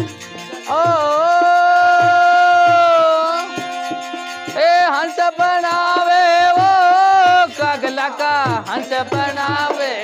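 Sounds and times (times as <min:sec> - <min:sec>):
hand drum beat: 0:00.0 - 0:10.0
harmonium: 0:00.0 - 0:10.0
man singing: 0:00.0 - 0:10.0.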